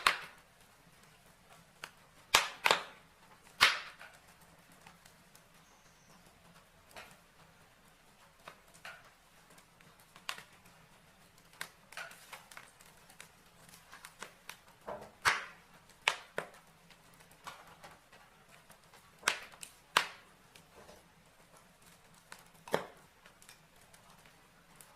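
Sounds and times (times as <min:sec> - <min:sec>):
faint fire hiss: 0:00.0 - 0:24.9
logs crackling in fireplace: 0:00.0 - 0:24.9.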